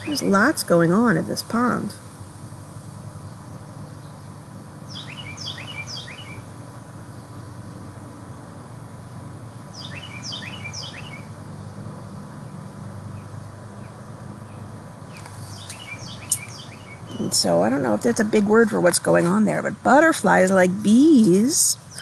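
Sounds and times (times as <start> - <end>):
low background hum: 0.0 - 22.0
songbird singing: 0.0 - 22.0.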